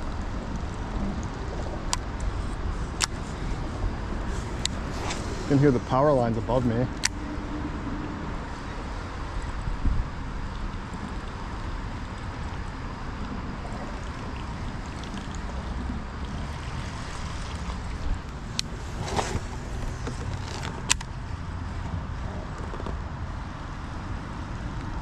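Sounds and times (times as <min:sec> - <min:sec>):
power lines humming: 0:00.0 - 0:22.5
faint water sounds from kayak: 0:00.1 - 0:23.5.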